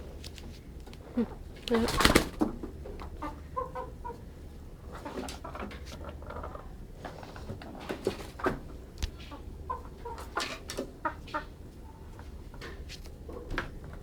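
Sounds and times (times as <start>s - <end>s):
chickens clucking: 1.0s - 14.0s.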